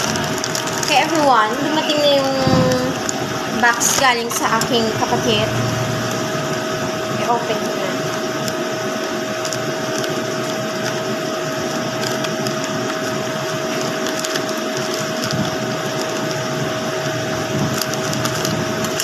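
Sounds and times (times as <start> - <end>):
whirring motor hum: 0.0 - 19.0.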